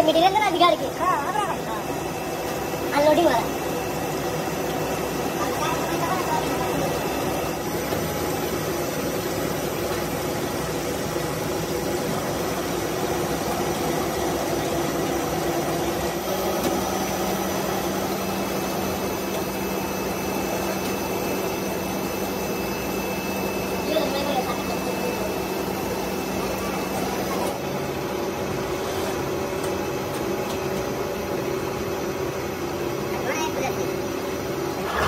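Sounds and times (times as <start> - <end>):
pipe extrusion line running: 0.0 - 35.0.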